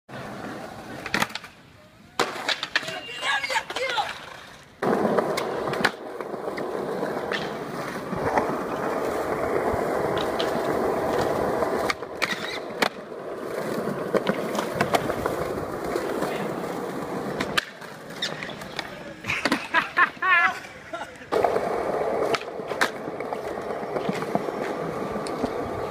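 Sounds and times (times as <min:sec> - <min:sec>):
skateboard wheels rolling on stone: 0:00.1 - 0:25.9
skateboard clacks and knocks: 0:02.2 - 0:19.7, 0:21.3 - 0:25.9
skateboard scraping stone ledge: 0:02.2 - 0:25.9.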